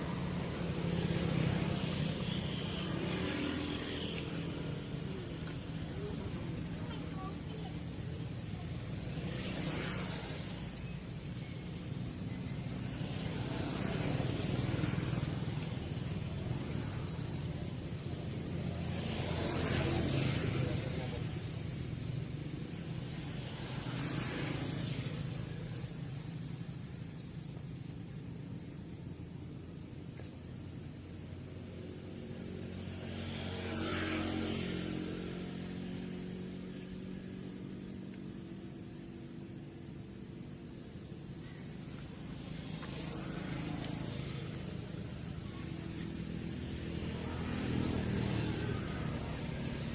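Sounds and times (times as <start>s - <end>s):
engine passing by: 0.0s - 49.9s.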